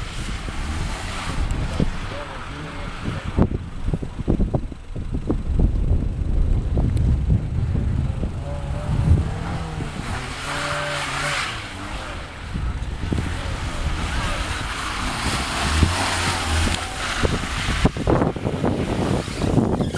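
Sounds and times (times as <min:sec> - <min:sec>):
car engine revving: 0:00.0 - 0:19.9
wind rumbling on microphone: 0:00.0 - 0:19.9.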